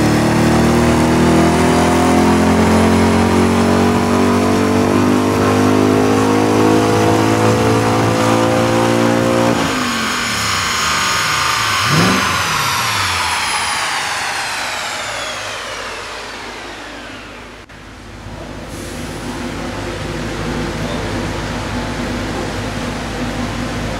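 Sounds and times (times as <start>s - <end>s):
car engine at full throttle: 0.0s - 23.9s
dyno rollers winding down: 0.0s - 23.9s.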